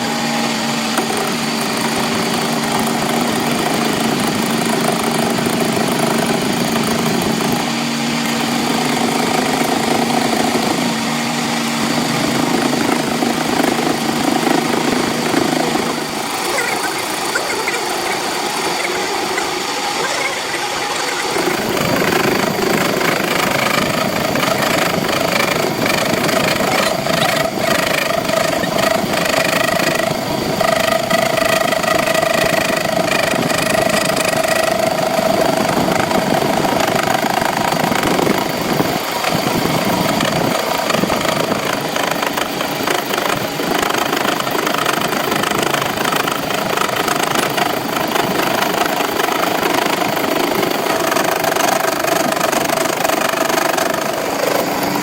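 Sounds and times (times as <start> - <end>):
metal lathe running: 0.0 - 55.0
held machine tone: 8.3 - 53.5.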